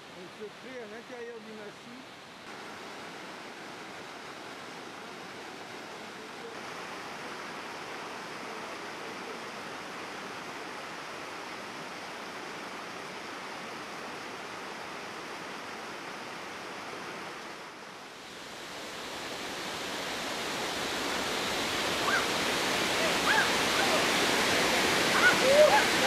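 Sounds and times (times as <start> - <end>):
stream rippling over rocks: 0.0 - 26.0.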